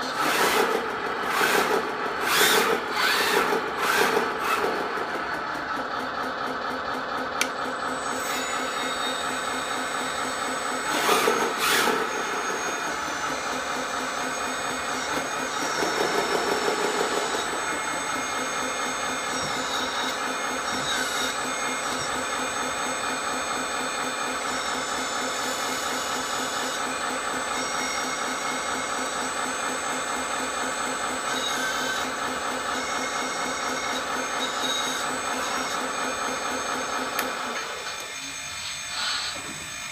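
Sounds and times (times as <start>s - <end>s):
rc bulldozer mechanical whirr: 0.0s - 39.9s.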